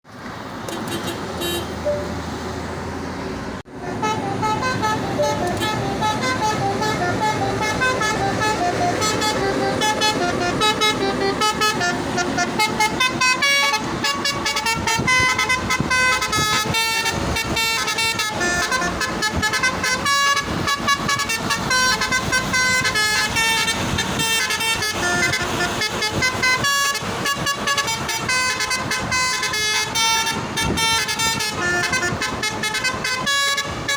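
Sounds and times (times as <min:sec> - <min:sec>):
truck air horn playing a tune: 0:00.7 - 0:02.1, 0:03.7 - 0:33.9.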